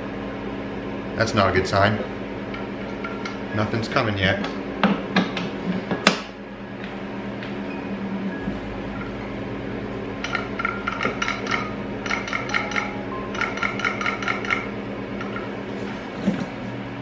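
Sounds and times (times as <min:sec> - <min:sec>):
carpet extractor humming: 0:00.0 - 0:17.0.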